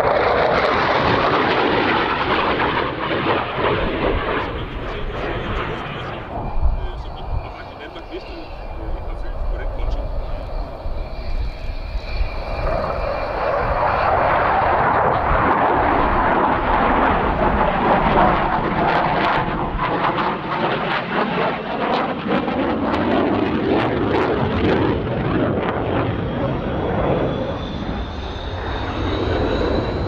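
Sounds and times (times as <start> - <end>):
jet roar with afterburner: 0.0 - 30.0.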